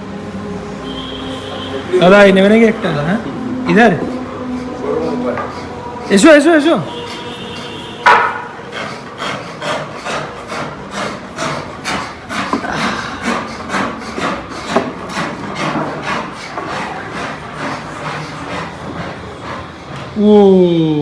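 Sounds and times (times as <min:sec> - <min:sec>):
wood being rasped: 0:00.9 - 0:20.3.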